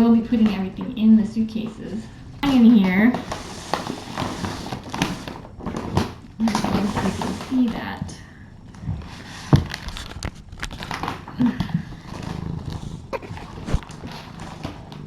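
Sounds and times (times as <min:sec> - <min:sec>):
items packed into a suitcase: 0:00.0 - 0:15.0.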